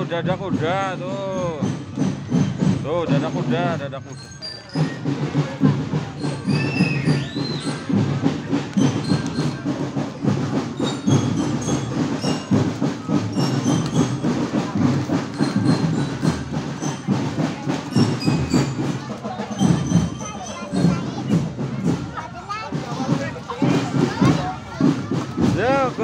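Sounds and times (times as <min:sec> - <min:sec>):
marching drum band playing: 0:00.0 - 0:26.0.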